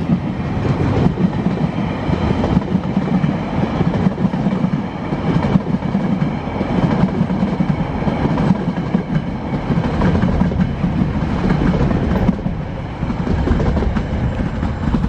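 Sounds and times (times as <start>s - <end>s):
freight train rumbling past: 0.0s - 15.0s
steel wheels clacking over rails: 0.0s - 15.0s.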